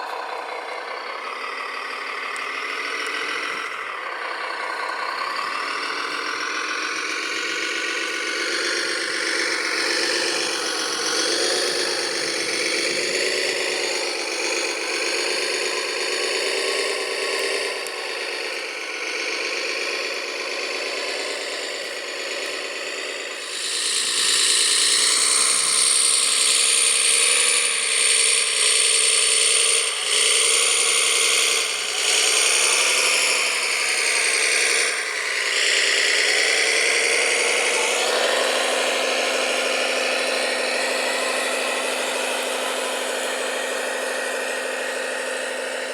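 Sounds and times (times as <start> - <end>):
model machines whirring and rattling: 0.0 - 45.9.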